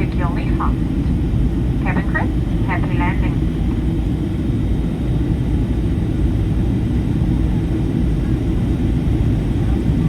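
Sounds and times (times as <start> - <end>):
airplane cabin low rumble: 0.0 - 10.0.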